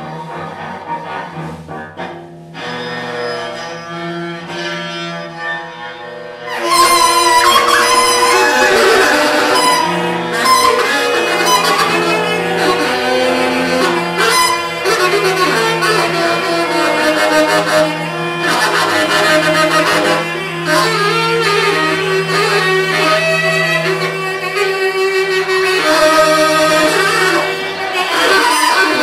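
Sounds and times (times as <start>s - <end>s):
bowed cello sustained tones: 0.0s - 29.0s
tenor saxophone: 0.0s - 29.0s.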